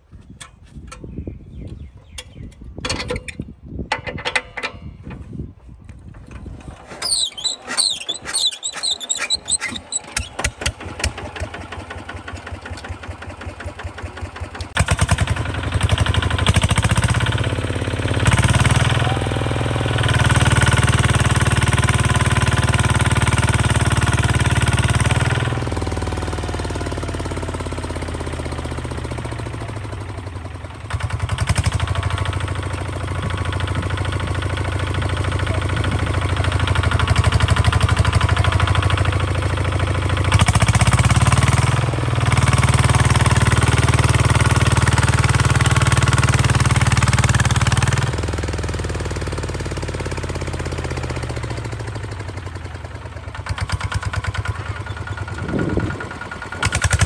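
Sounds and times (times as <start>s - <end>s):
diesel tractor engine chugging: 6.4s - 57.0s.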